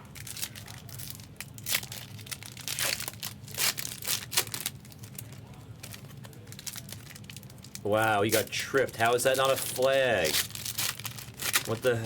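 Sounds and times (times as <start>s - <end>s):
low steady hum: 0.0s - 12.0s
plastic wrapping crinkling and tearing: 0.0s - 12.0s.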